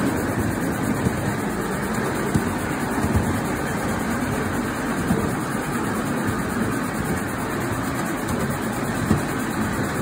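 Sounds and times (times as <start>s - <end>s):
wheels rattling on rail: 0.0s - 10.0s.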